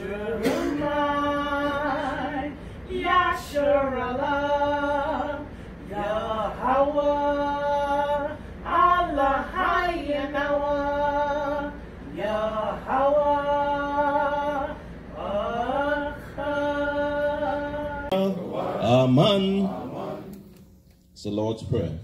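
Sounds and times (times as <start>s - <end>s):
voices singing a slow chant: 0.0s - 20.5s.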